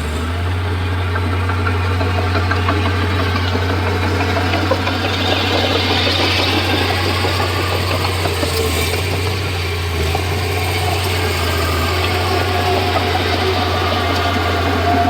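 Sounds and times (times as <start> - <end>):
bulldozer diesel engine humming: 0.0 - 15.0.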